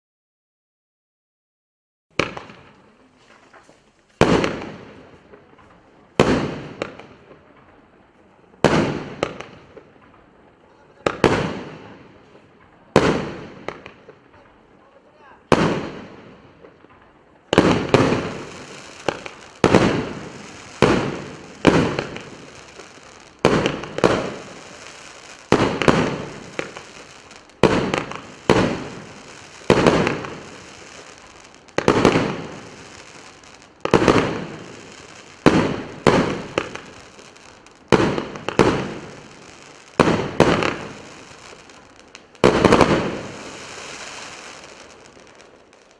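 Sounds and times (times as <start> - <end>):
firework shots with crackling tails: 2.1 - 45.9.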